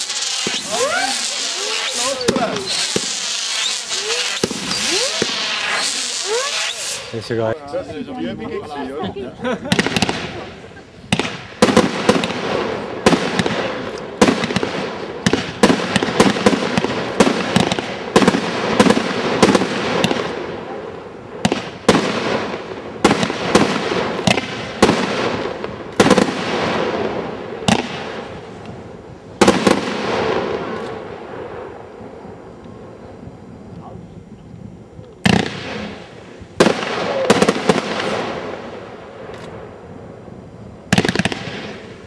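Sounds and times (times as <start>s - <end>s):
fireworks bangs echoing: 0.0s - 7.6s, 9.6s - 28.5s, 29.4s - 31.8s, 35.2s - 39.8s, 40.9s - 42.0s
fireworks crackle: 0.0s - 7.6s, 9.5s - 33.0s, 35.1s - 42.0s.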